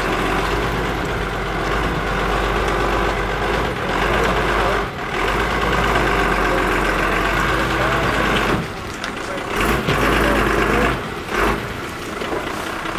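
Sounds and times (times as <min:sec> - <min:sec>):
heavy truck engine rumbling: 0:00.0 - 0:12.9.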